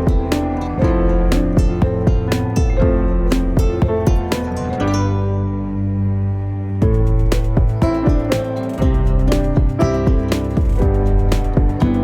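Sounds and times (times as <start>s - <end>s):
song with guitar and beat: 0.0s - 4.8s, 6.8s - 12.0s.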